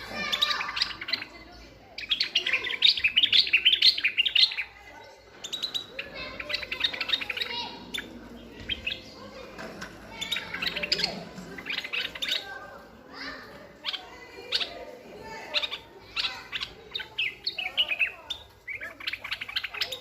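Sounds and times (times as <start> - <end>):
birds twittering and whistling: 0.0 - 20.0.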